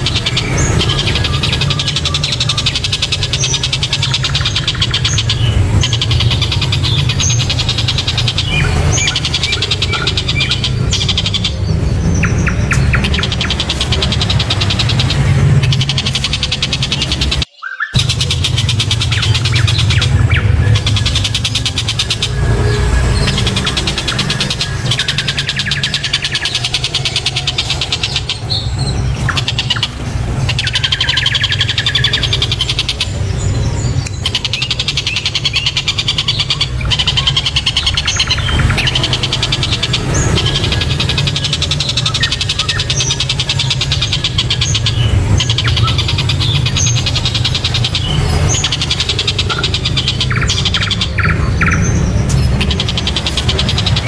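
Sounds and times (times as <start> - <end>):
bird rattling call: 0.0 - 54.0.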